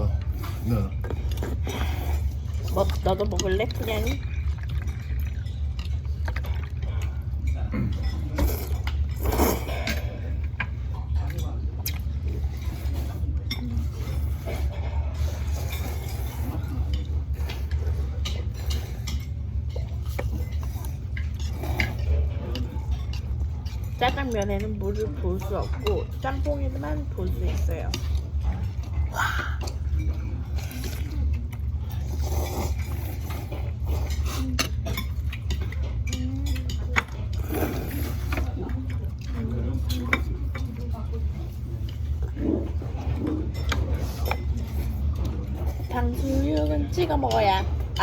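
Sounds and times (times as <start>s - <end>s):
utensils clinking against bowl: 0.0s - 48.0s.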